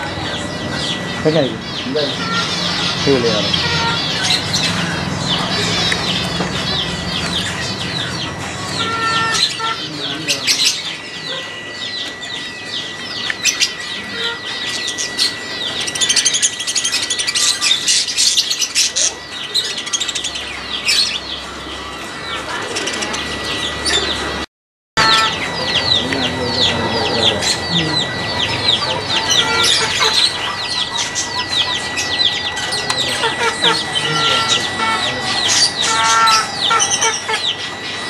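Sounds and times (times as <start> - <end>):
small birds chirping: 0.0 - 24.4, 25.0 - 38.0
thin high tone: 0.0 - 24.4, 25.0 - 38.0.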